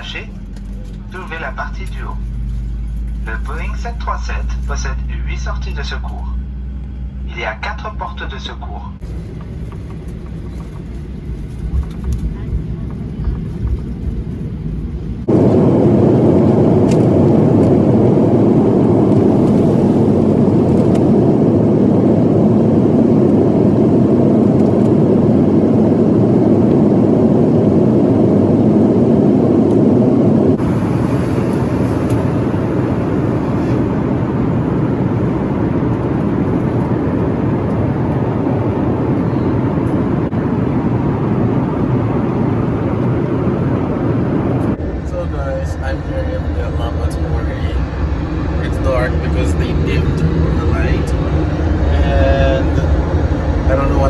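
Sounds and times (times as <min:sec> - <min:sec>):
jet engine and airflow noise in cabin: 0:00.0 - 0:54.0.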